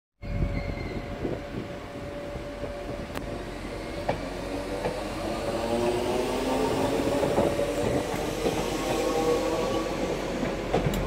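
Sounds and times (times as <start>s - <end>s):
electric train hum: 0.2s - 11.0s
wheels rumbling on track: 0.4s - 11.0s.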